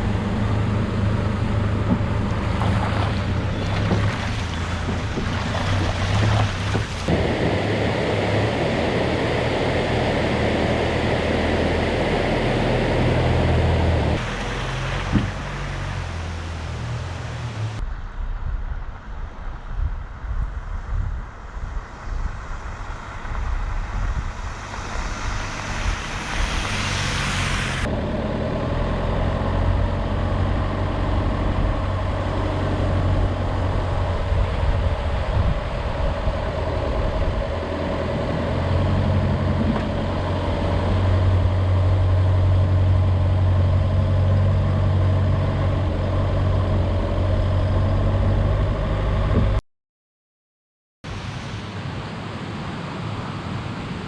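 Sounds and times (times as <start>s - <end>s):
rushing noise: 0.0s - 49.3s, 51.1s - 54.0s
low motor hum: 0.0s - 49.6s.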